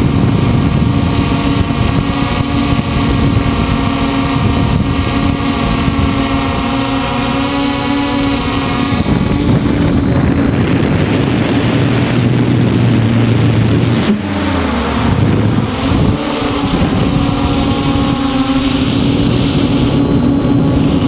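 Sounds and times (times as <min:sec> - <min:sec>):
drone propellers whirring: 0:00.0 - 0:21.0
wind buffeting microphone: 0:00.0 - 0:21.0.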